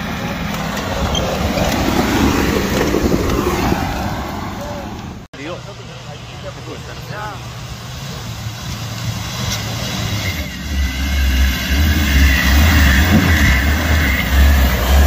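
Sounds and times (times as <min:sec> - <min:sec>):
off-road engine under load: 0:00.0 - 0:15.0.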